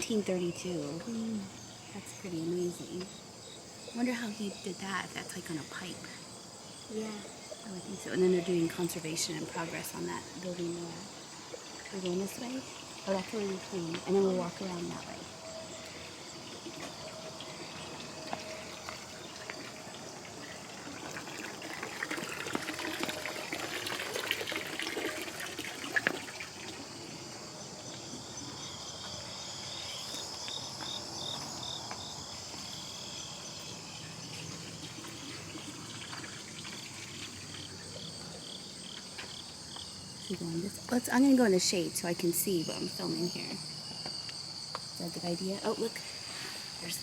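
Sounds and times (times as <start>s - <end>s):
insects chirping: 0.0s - 47.0s
pulsing insect trill: 0.0s - 47.0s.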